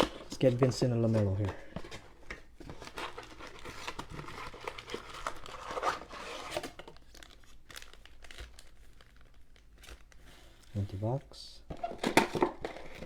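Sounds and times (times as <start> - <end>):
packaging crinkling and tearing: 0.0 - 10.9, 11.8 - 13.0.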